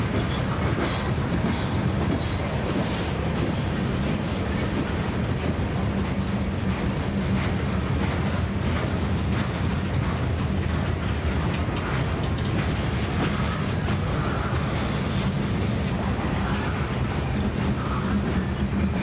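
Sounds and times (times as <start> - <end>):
clicks and clanks of railcars: 0.0 - 19.0
train wheels rumbling on track: 0.0 - 19.0.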